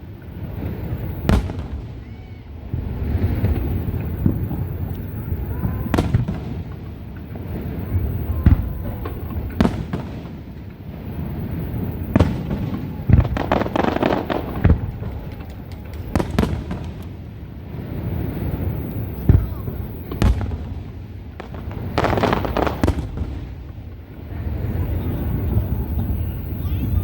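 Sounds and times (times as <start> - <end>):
firework bangs: 0.0 - 27.0
firework crackling: 0.0 - 27.0.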